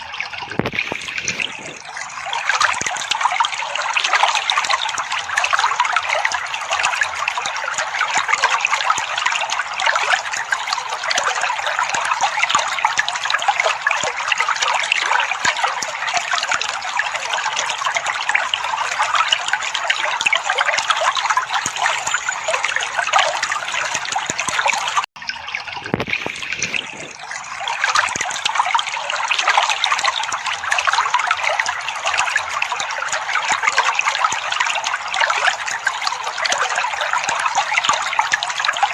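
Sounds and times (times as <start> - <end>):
water trickling and babbling: 0.0 - 38.9.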